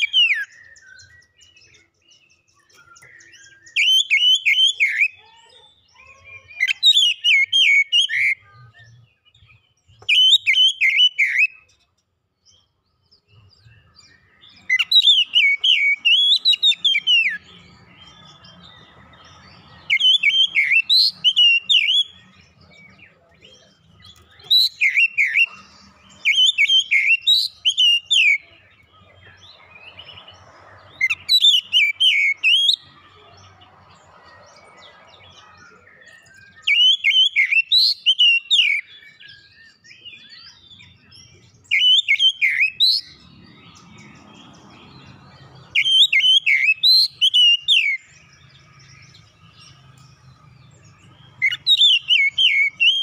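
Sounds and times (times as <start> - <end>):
bird singing whistled notes: 0.0 - 53.0.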